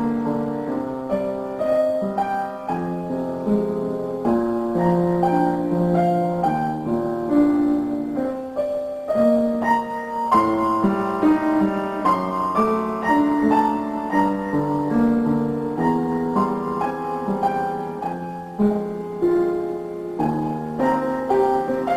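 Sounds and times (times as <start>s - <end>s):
piano music: 0.0s - 21.9s.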